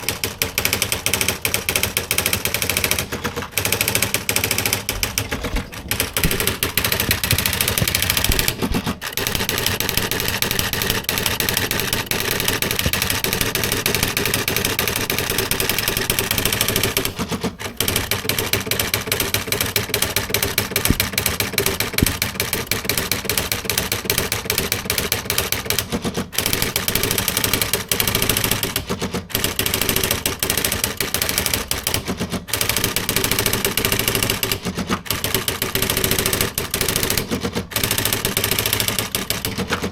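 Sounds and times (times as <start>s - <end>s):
electronic typewriter typing: 0.0s - 39.9s.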